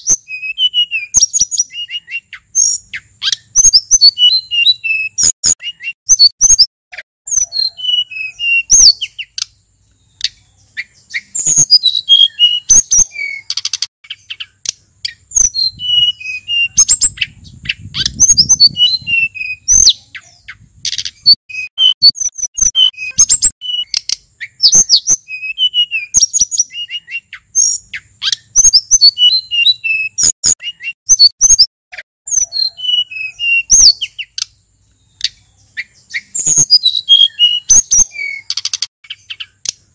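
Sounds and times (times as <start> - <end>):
bird singing high chirps and whistles: 0.0 - 39.9.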